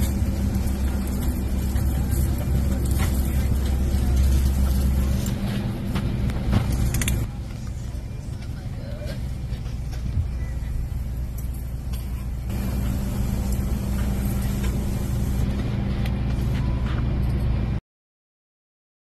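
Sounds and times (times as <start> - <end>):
vehicle engine rumbling: 0.0 - 17.8.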